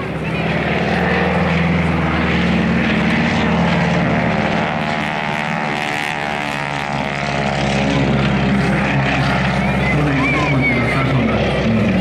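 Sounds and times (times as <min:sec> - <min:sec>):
propeller plane engine flying past: 0:00.0 - 0:12.0.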